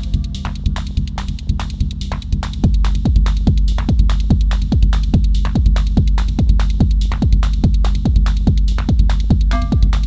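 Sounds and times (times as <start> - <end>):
fast hi-hat ticks: 0.0 - 10.0
steady bass drone: 0.0 - 10.0
techno kick drum: 0.0 - 10.0.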